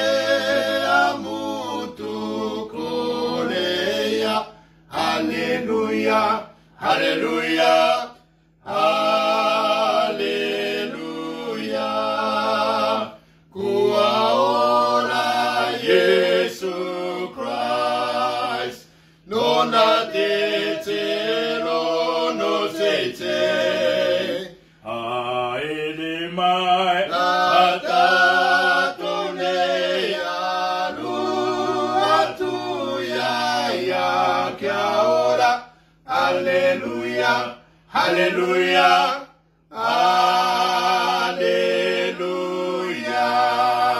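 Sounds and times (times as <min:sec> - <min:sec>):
men singing a hymn a cappella: 0:00.0 - 0:43.9.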